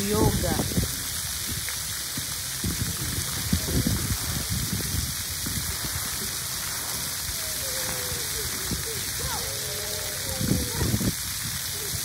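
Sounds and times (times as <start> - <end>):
fountain jets spraying on concrete: 0.0 - 12.0
low rumbles: 0.0 - 12.0.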